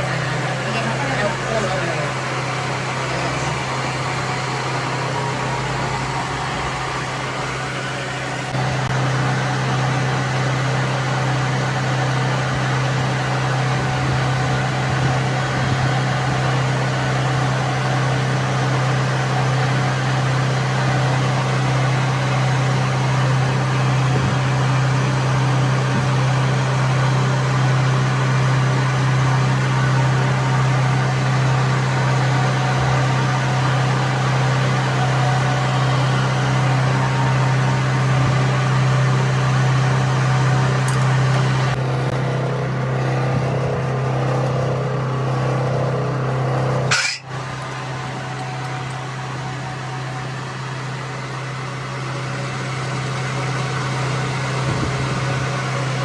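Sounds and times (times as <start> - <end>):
engine deep hum: 0.0 - 56.0.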